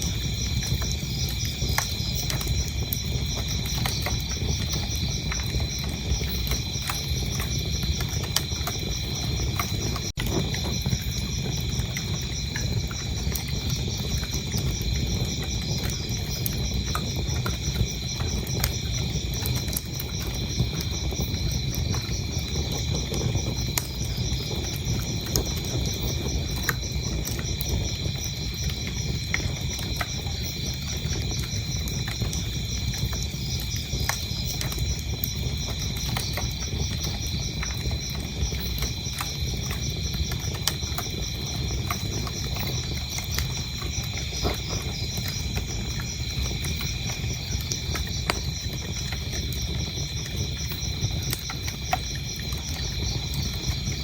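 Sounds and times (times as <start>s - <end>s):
crickets chirping: 0.0s - 54.0s
wood fire crackling and popping: 0.0s - 54.0s.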